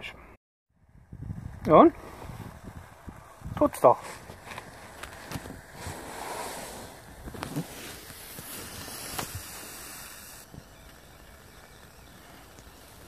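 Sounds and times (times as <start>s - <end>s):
wind rushing on microphone: 0.8s - 13.0s.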